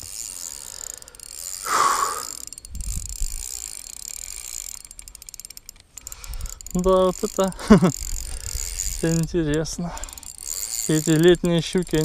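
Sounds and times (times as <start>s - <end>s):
fishing reel drag clicking: 0.0s - 12.0s.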